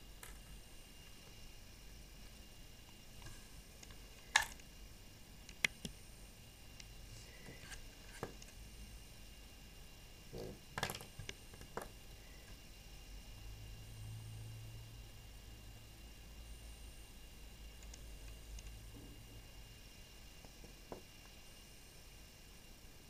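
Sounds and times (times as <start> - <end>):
faint room hum: 0.0 - 23.0.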